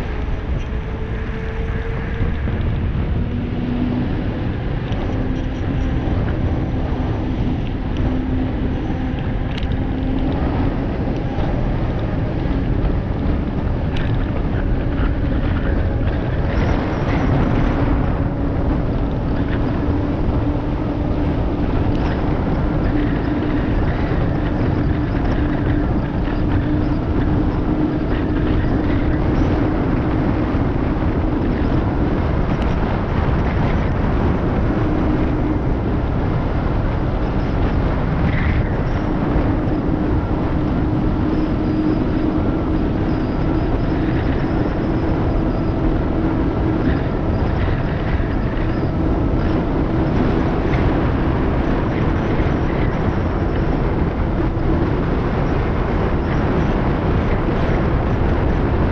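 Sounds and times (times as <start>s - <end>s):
tyre humming on road: 0.0s - 58.9s
wind rushing over microphone: 0.0s - 58.9s.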